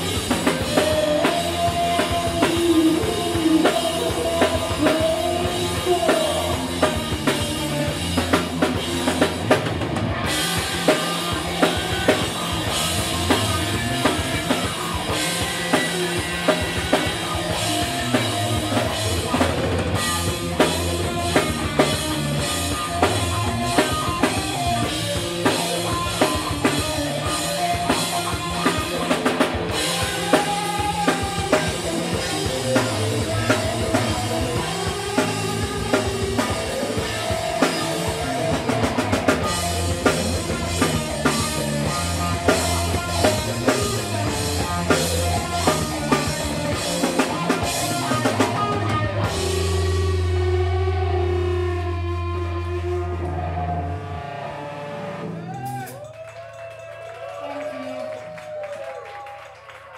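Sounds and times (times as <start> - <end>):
bass drum and snare beat: 0.0 - 50.8
live rock band playing: 0.0 - 56.2
electric guitars: 0.0 - 59.1.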